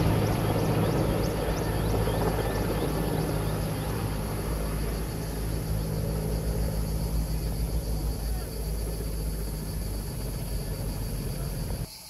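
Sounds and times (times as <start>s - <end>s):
distant helicopter rotor rumble: 0.0s - 11.9s.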